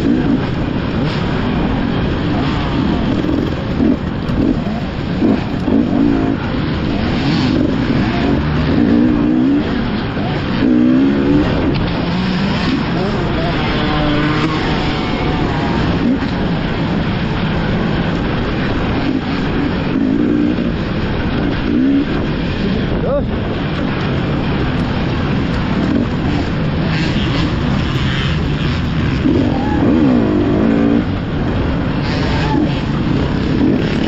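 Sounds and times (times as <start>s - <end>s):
dirt bike engine revving: 0.0s - 34.0s
steady rush of noise: 0.0s - 34.0s.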